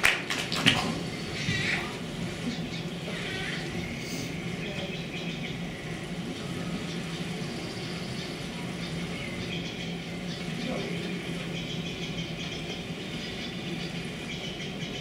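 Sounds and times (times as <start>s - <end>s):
room noise hum: 0.0s - 15.0s.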